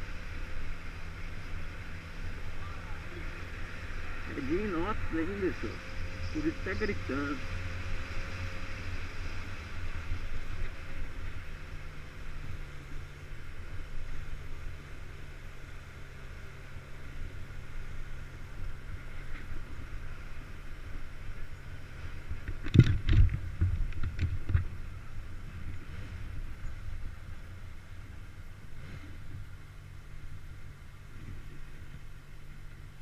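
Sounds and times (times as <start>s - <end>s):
motorcycle engine droning: 0.0s - 33.0s.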